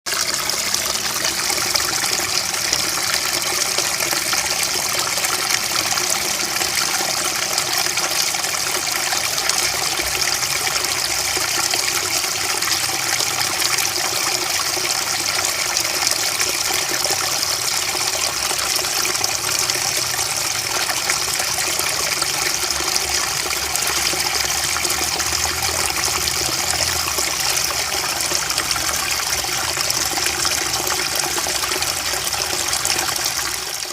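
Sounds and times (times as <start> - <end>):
babbling water: 0.1 - 33.9.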